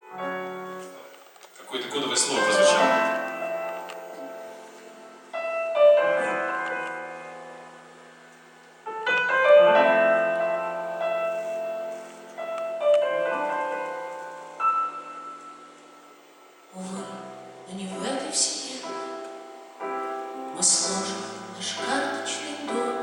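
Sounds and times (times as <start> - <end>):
piano chords ringing: 0.0 - 23.0.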